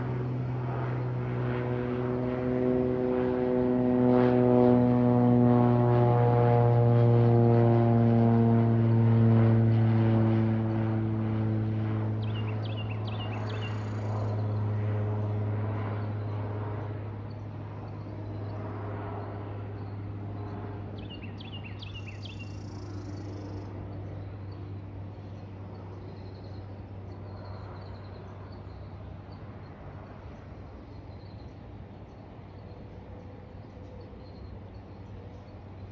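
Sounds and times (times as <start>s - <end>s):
propeller plane droning overhead: 0.0s - 35.9s.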